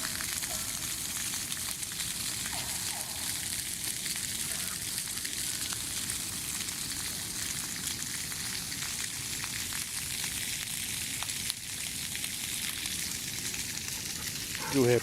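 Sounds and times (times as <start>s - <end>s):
water spraying: 0.0s - 10.5s, 12.3s - 15.0s.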